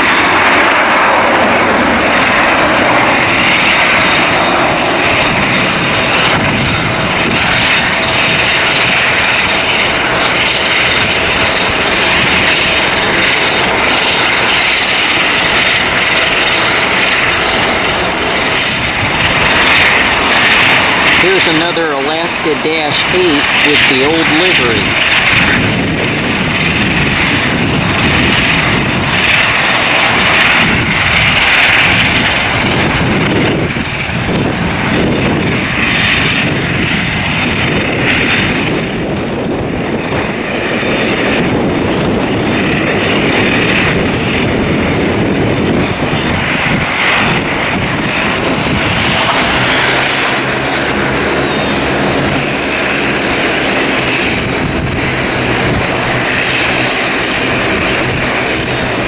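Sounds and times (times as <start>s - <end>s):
low drone: 0.0s - 37.8s, 41.4s - 59.0s
turboprop engines running: 0.0s - 59.0s
wind buffeting microphone: 0.0s - 59.0s.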